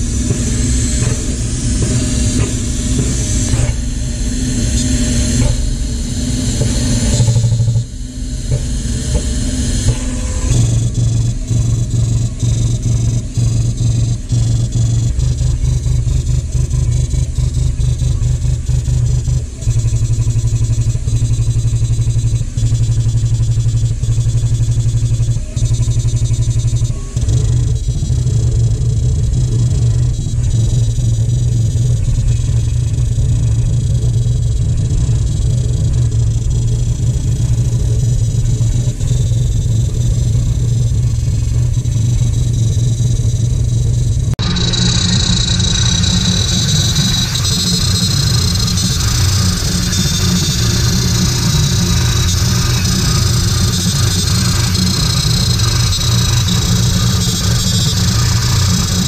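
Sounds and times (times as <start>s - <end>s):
jet printer buzzing pulses: 0.0s - 59.0s.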